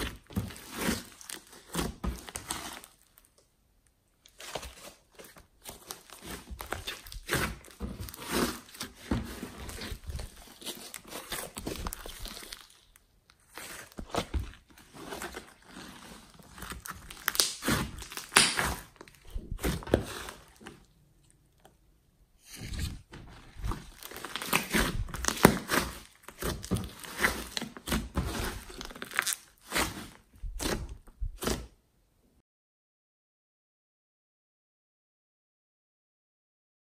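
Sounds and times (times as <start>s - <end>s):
slime squishing: 0.0s - 3.4s, 4.1s - 21.8s, 22.4s - 31.8s.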